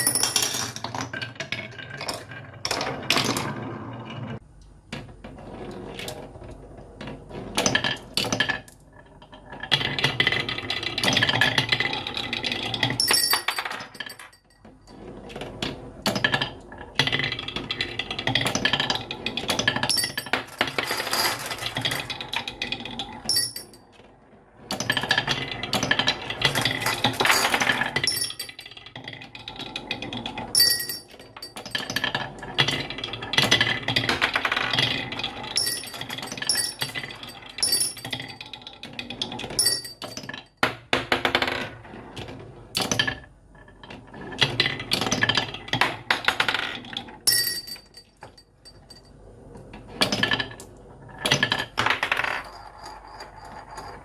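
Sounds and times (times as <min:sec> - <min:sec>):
marbles rolling down a marble run: 0:00.0 - 0:04.3, 0:05.4 - 0:40.4, 0:41.0 - 0:49.3, 0:50.0 - 0:54.0.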